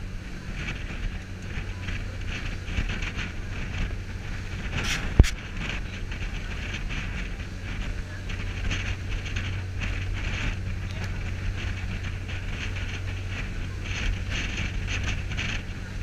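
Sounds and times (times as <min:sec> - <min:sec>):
boat engine humming: 0:00.0 - 0:16.0
wind and water rushing: 0:00.0 - 0:16.0.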